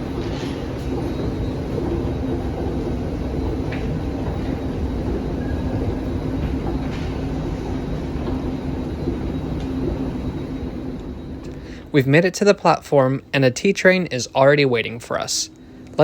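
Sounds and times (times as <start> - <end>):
low rumble and hum of metro station: 0.0 - 16.0.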